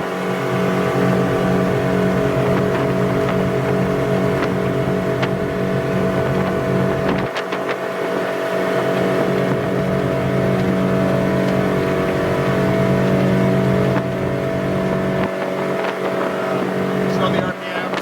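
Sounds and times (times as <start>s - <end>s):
boat engines humming: 0.0s - 18.0s
rushing water noise: 0.0s - 18.0s.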